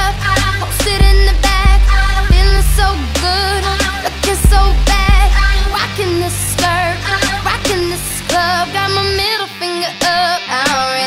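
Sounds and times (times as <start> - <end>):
pop song with sung vocal: 0.0 - 11.0.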